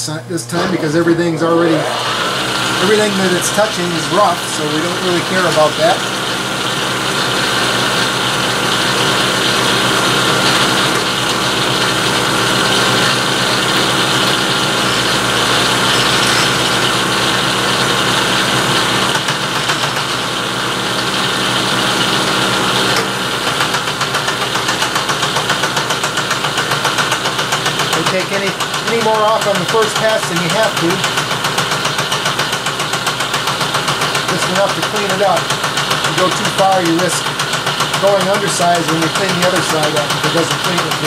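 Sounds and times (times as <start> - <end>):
steady motor hum: 0.0 - 41.0
milling machine cutting steel: 0.5 - 26.9, 27.6 - 41.0.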